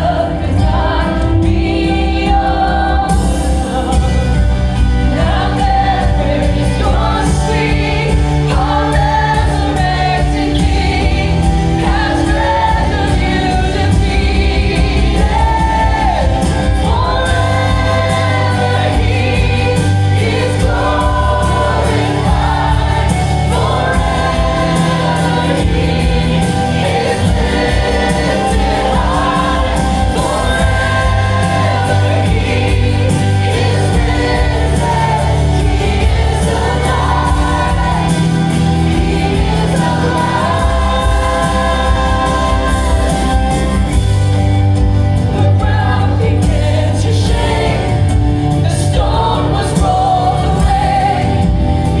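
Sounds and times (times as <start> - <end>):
band with strong bass: 0.0 - 52.0
choir and congregation singing: 0.0 - 52.0.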